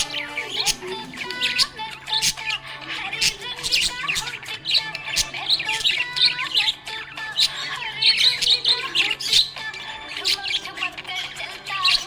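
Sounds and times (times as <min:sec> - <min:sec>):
budgerigars chirping and squawking: 0:00.0 - 0:12.0.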